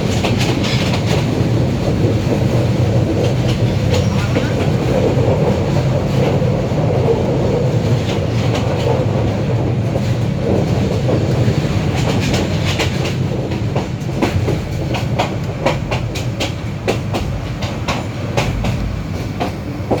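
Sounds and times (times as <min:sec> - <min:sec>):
train rumbling on rails: 0:00.0 - 0:20.0
wheels clacking over rail joints: 0:00.0 - 0:20.0.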